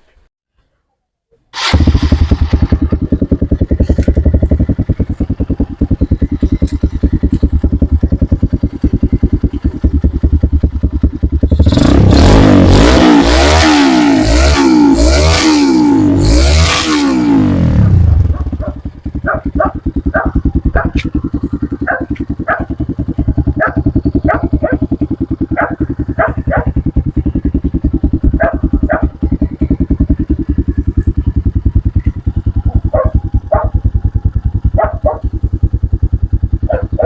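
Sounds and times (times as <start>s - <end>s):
dirt bike engine idling and revving: 1.6s - 37.0s.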